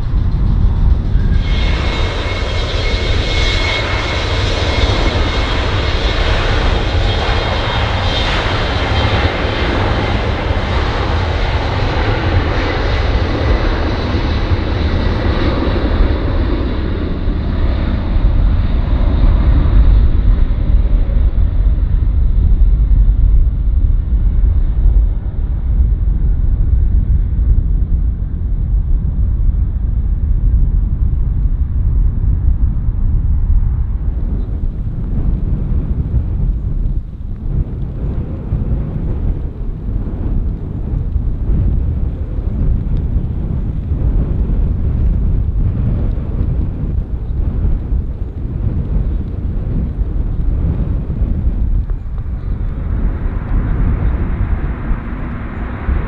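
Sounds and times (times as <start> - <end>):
high engine whine: 0.0 - 22.2, 32.4 - 56.0
jet engines running: 0.0 - 22.2, 32.9 - 56.0
deep rumble: 0.0 - 56.0.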